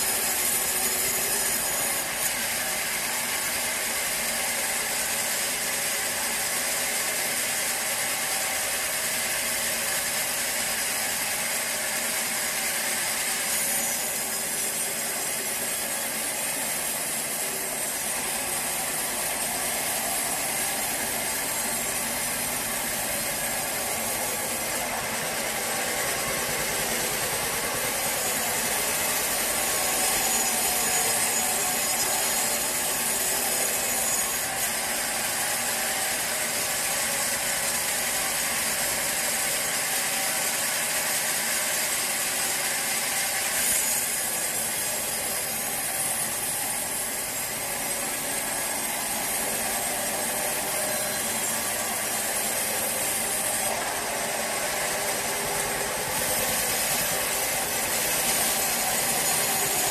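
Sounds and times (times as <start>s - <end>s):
saw blade cutting through log: 0.0s - 59.9s.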